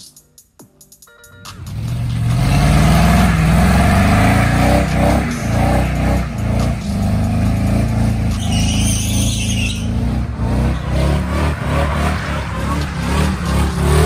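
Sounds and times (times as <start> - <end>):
truck engine revving high: 1.6 - 14.0.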